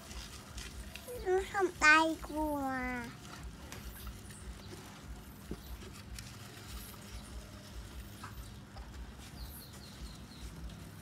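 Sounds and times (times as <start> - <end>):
hamsters scrabbling in shavings: 0.0 - 11.0.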